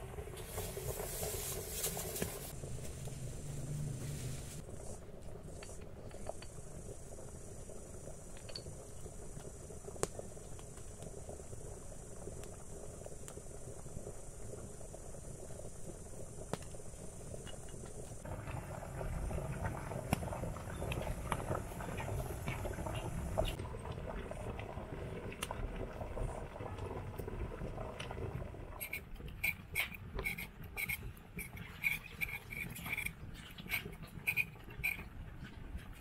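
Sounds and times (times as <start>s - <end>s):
broth boiling in a pot: 0.0s - 36.0s.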